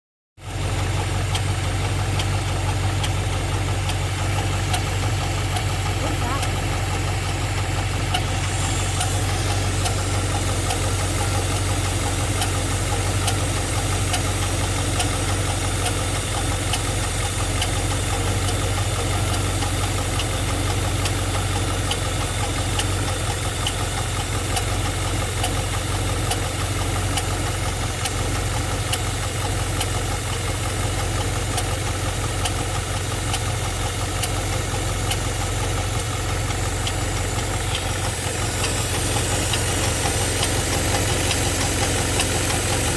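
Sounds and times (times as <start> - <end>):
car engine idling with ticking: 0.4 - 42.9.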